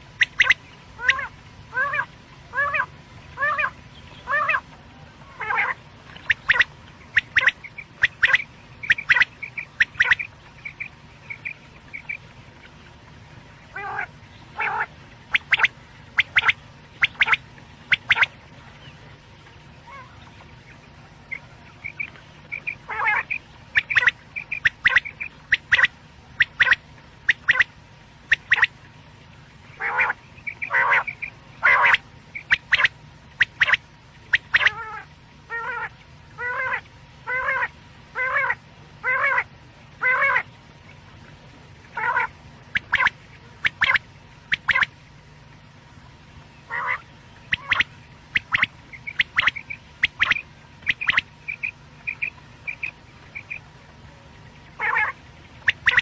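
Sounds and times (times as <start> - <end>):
low steady hum: 0.0 - 56.0
quail calling: 0.2 - 4.6, 5.4 - 12.2, 13.7 - 18.4, 21.3 - 27.7, 28.3 - 28.7, 29.8 - 40.5, 41.9 - 44.9, 46.7 - 53.7, 54.8 - 56.0.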